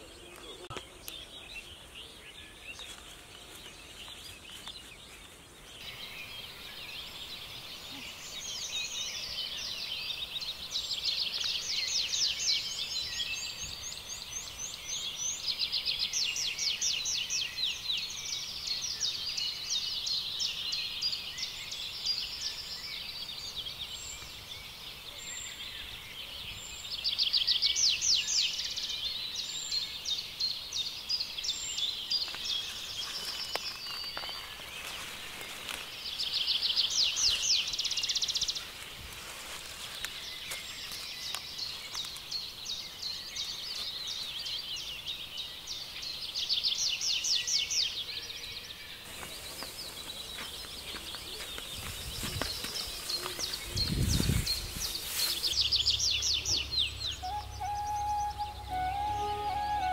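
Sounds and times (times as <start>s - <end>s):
small birds trilling: 0.0s - 59.9s.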